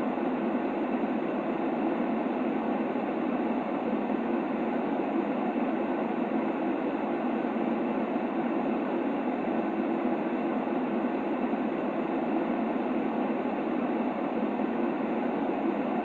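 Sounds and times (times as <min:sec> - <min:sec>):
muffled white noise hiss: 0:00.0 - 0:16.0.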